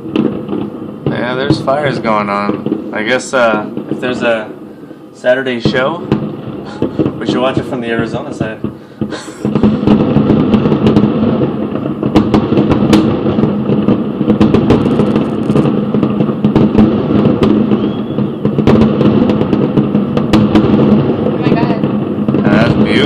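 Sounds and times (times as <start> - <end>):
sharp cracks: 0.0 - 23.0
wind buffeting microphone: 0.0 - 23.0.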